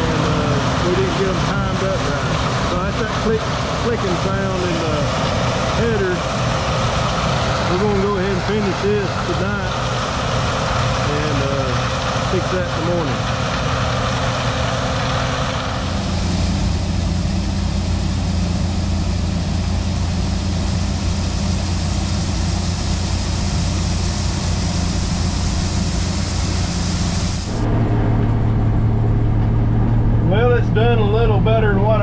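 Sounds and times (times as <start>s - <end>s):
dense machine hiss: 0.0s - 27.7s
combine engine hum: 0.0s - 32.0s.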